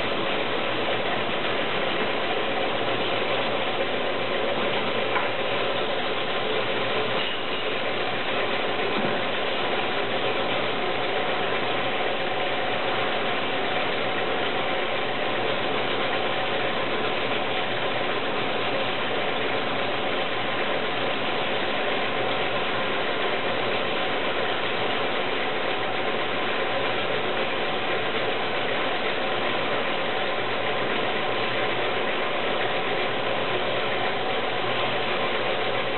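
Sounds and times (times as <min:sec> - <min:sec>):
screening machine humming: 0:00.0 - 0:35.9.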